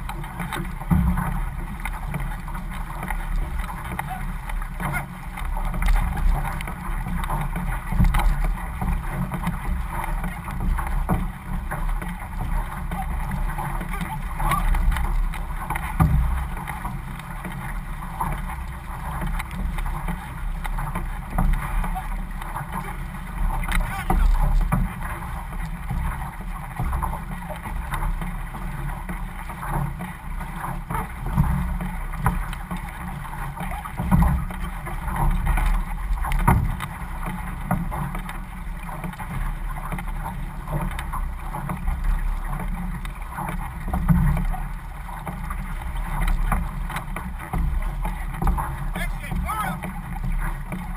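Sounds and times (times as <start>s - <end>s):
paddles splashing: 0.0s - 50.9s
water rushing along hull: 0.0s - 50.9s.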